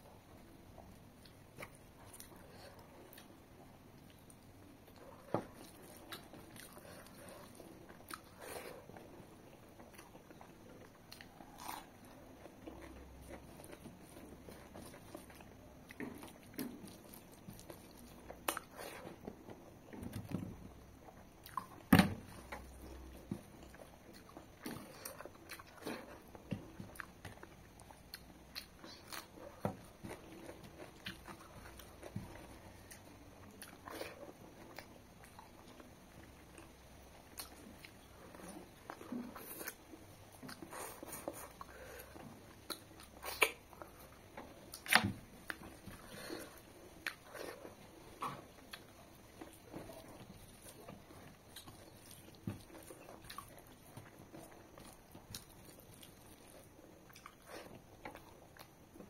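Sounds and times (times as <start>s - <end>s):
wet chewing and smacking: 0.8s - 20.4s, 21.1s - 59.0s.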